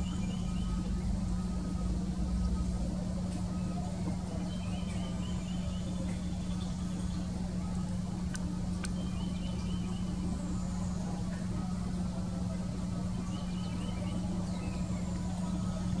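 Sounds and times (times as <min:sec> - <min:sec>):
faint birds calling: 0:00.0 - 0:16.0
low mechanical hum: 0:00.0 - 0:16.0.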